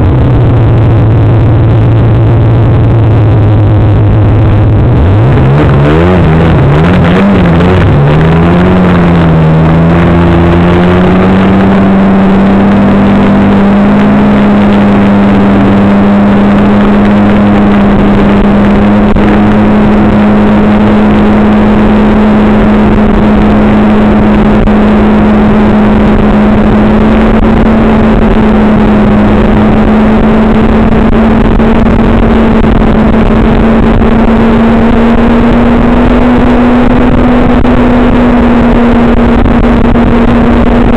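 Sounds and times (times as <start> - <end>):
rushing road noise rumble: 0.0 - 40.9
vehicle engine droning: 0.0 - 40.9.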